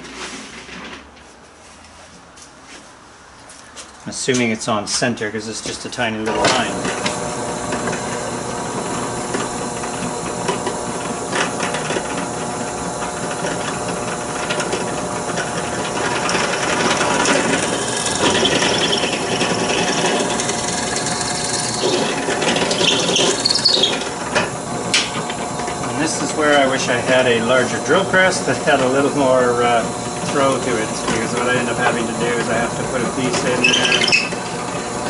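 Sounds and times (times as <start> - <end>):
drill press boring through wood: 6.1 - 35.0
motor hum: 6.2 - 35.0.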